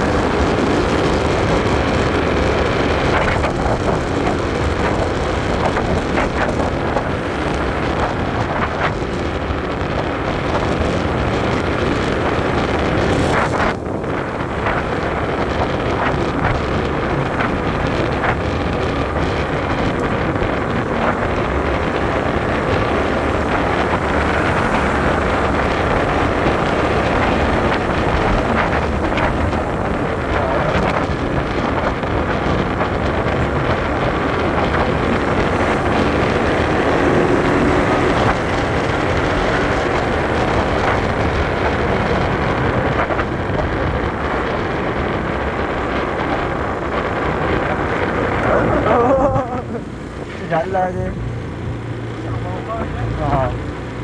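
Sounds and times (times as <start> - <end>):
scooter engine and tyre noise: 0.0 - 54.0
wind rushing over microphone: 0.0 - 54.0.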